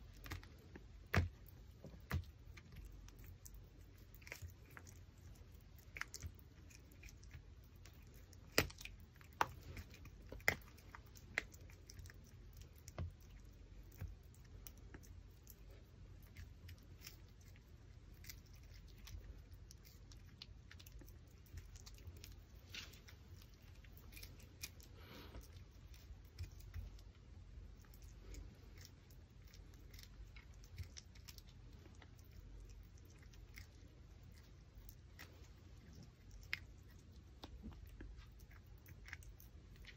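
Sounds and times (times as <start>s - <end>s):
puppy gnawing a bone: 0.0s - 39.9s
teeth crunching on bone: 0.0s - 39.9s.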